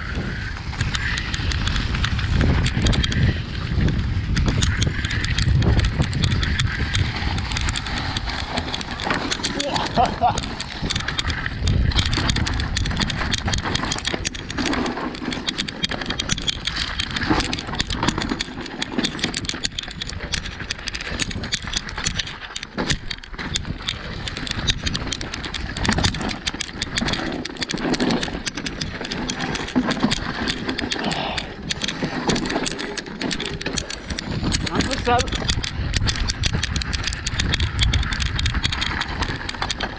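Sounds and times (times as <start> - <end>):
bike rattling and knocking: 0.0 - 39.9
tyres crunching over stones: 0.0 - 39.9.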